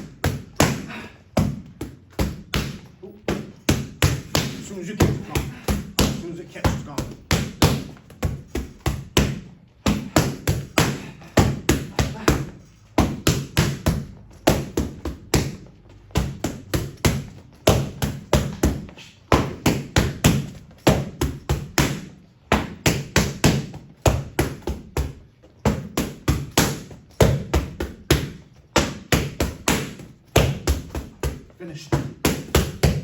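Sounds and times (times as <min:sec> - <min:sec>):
boxing gloves striking pads: 0:00.0 - 0:33.0.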